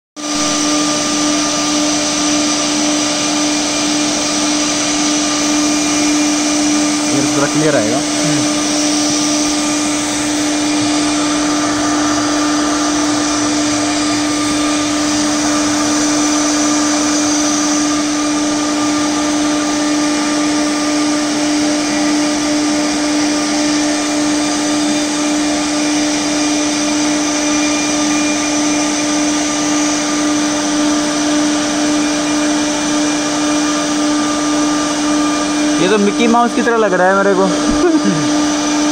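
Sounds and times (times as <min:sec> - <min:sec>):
printer fans and motors whirring: 0:00.2 - 0:38.9.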